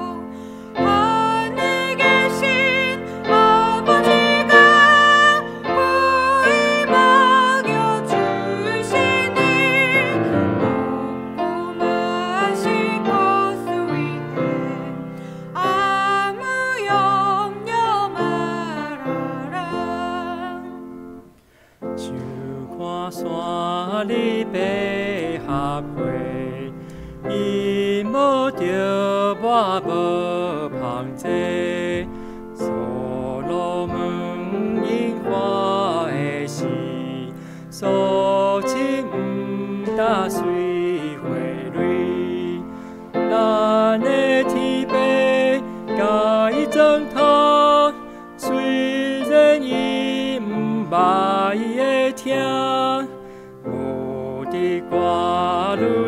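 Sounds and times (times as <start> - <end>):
man singing a hymn: 0.0 - 20.8, 21.8 - 56.0
woman singing a hymn: 0.0 - 20.8, 22.0 - 56.0
piano accompaniment: 0.0 - 56.0.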